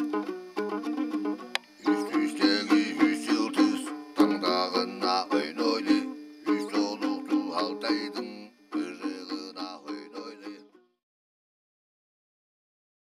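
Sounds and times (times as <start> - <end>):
plucked string instrument music: 0.0 - 11.0.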